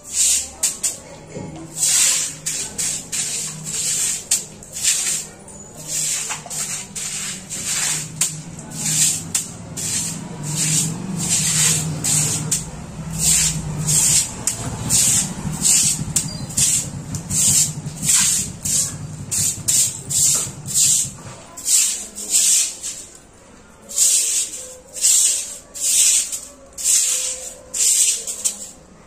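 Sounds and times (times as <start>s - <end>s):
broom sweeping stone floor: 0.0s - 29.0s.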